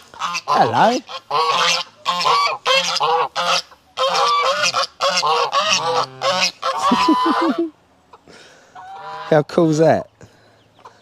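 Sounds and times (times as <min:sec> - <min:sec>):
geese honking: 0:00.0 - 0:11.0
geese low sliding calls: 0:00.0 - 0:11.0.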